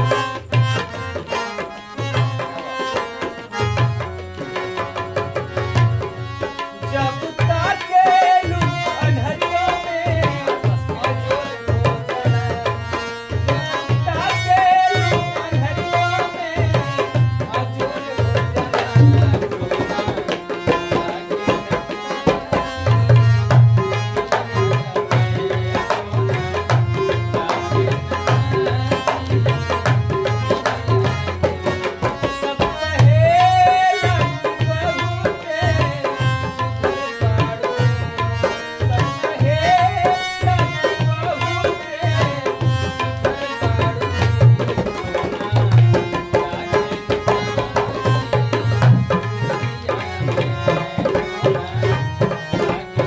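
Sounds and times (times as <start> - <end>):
harmonium melody: 0.0 - 53.0
tabla and dholak rhythm: 0.0 - 53.0.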